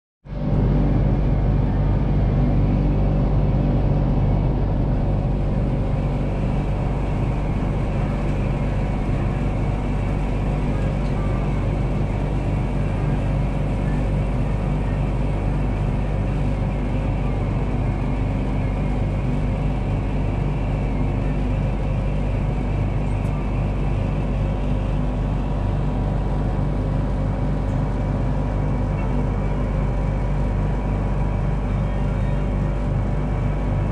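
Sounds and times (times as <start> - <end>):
low machine hum drone: 0.3 - 33.9.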